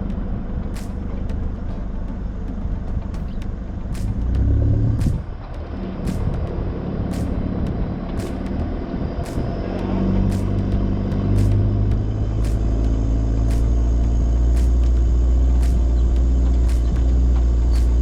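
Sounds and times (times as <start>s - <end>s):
vehicle engine and road drone: 0.0s - 18.0s.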